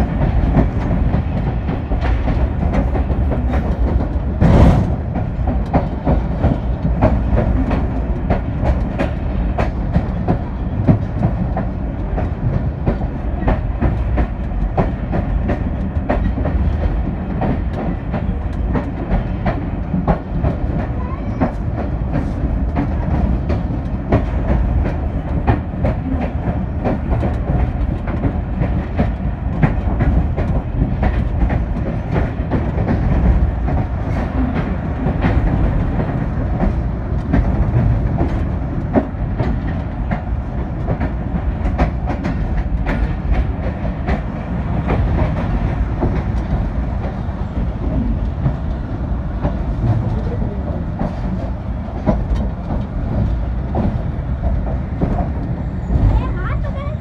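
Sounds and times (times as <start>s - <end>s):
train coach rumble: 0.0s - 57.0s
wheels clicking on rails: 0.0s - 57.0s.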